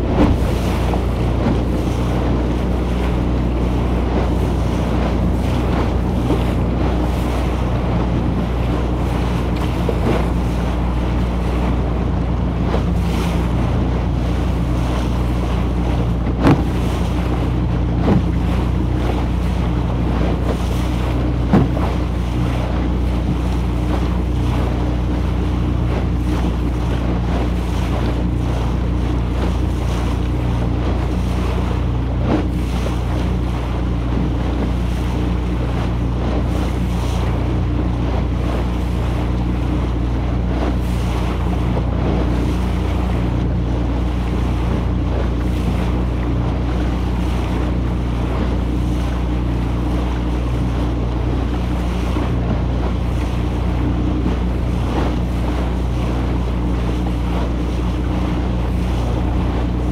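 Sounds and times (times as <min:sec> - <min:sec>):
bow knocking on waves: 0:00.0 - 0:59.9
motorboat engine running: 0:00.0 - 0:59.9
water rushing along hull: 0:00.0 - 0:59.9
wind on microphone: 0:00.0 - 0:59.9.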